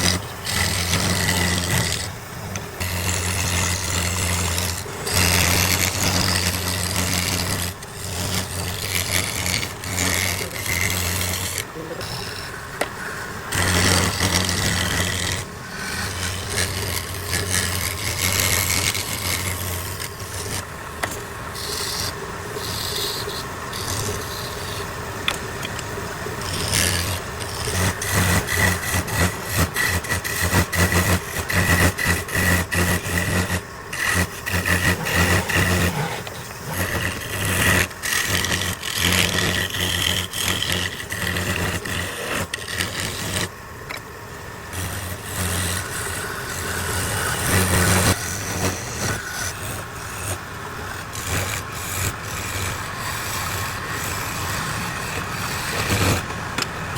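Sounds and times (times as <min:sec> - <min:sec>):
tool scraping spinning wood: 0:00.0 - 0:56.9
wood lathe motor hum: 0:00.0 - 0:56.9.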